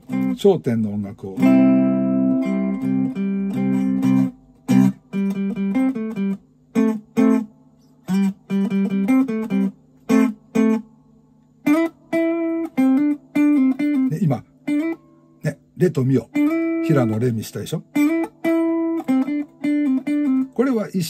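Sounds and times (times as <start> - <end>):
clean electric guitar melody: 0.0 - 0.4, 1.4 - 10.9, 11.5 - 15.5, 16.1 - 20.8.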